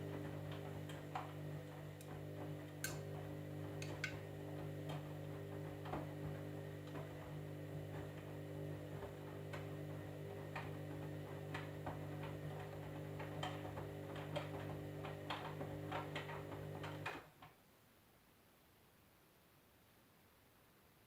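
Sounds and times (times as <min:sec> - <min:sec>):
washing machine humming: 0:00.0 - 0:17.3.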